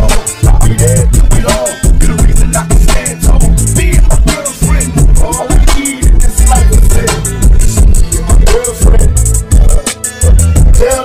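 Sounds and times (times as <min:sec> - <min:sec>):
boosted bass: 0:00.0 - 0:11.0
person rapping: 0:00.0 - 0:11.0
rapid hi-hat ticks: 0:00.0 - 0:11.0.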